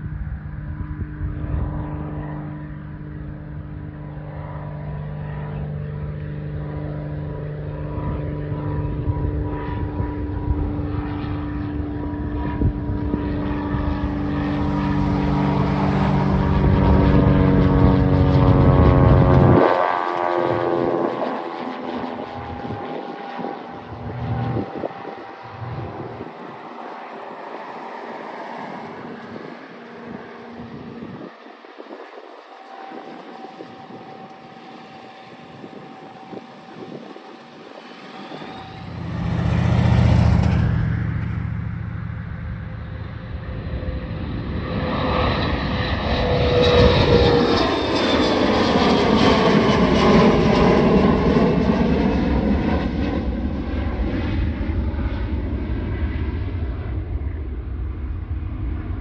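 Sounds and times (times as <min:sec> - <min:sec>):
airplane engines at takeoff: 0:00.0 - 0:59.0.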